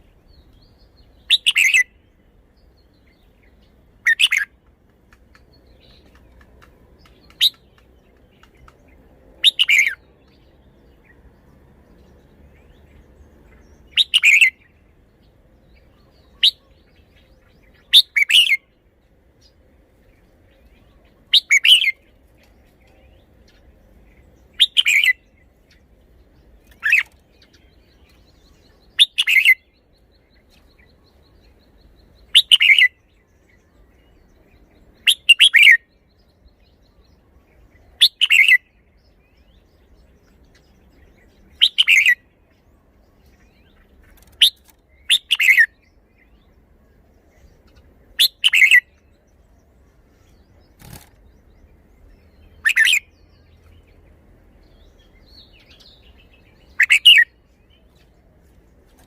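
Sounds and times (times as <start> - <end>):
bird singing loud song phrases: 0.0 - 59.0.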